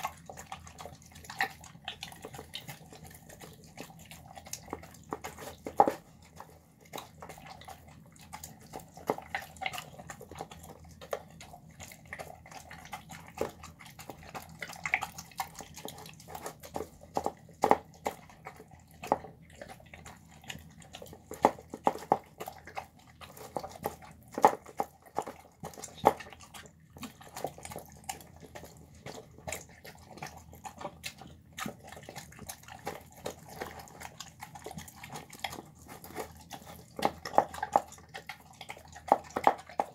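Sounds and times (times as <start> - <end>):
dog chewing wetly: 0.0 - 39.9.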